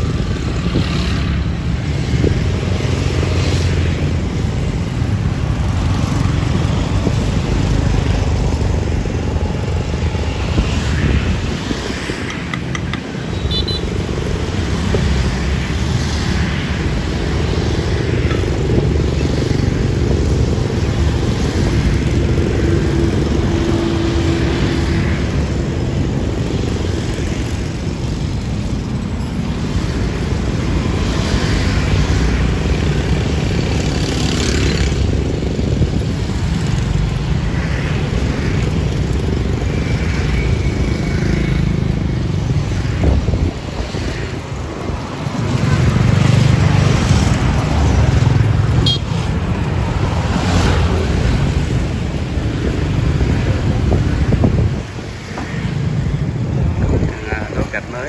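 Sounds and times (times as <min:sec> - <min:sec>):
cars passing: 0:00.0 - 0:58.0
motorbikes passing: 0:00.0 - 0:58.0.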